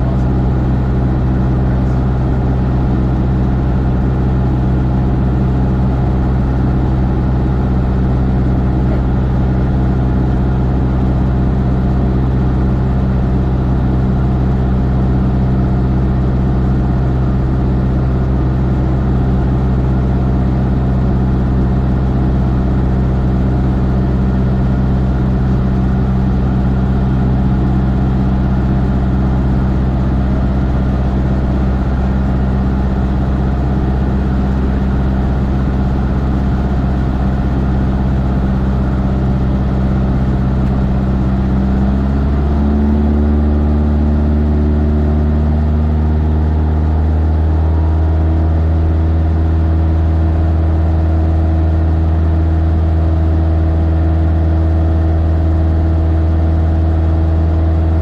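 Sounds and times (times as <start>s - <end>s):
light aircraft engine in flight: 0.0s - 58.0s.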